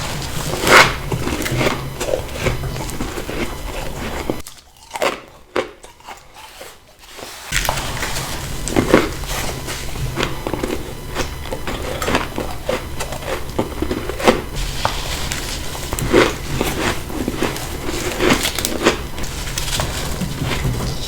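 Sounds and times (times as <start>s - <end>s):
ice being bitten and chewed: 0.0s - 21.0s.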